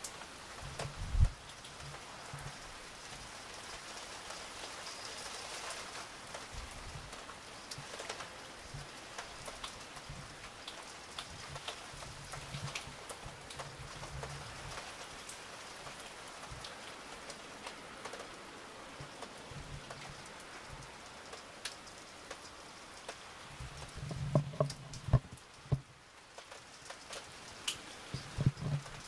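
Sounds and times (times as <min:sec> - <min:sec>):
raindrops ticking close by: 0:00.0 - 0:29.0
steady rain falling: 0:00.0 - 0:29.0.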